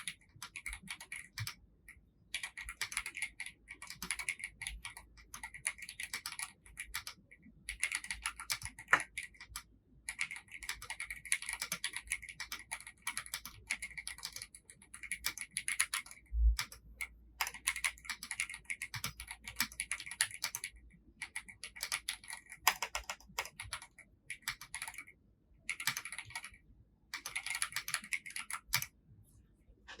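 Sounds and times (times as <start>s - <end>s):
mechanical keyboard typing: 0.0s - 29.0s.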